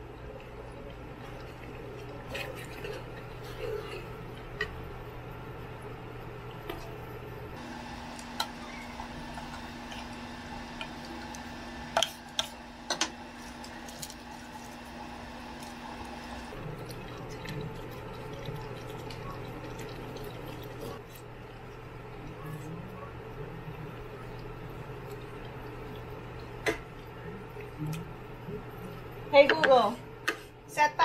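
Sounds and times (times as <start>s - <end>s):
low steady hum: 0.0s - 31.0s
stew simmering and bubbling: 0.0s - 31.0s.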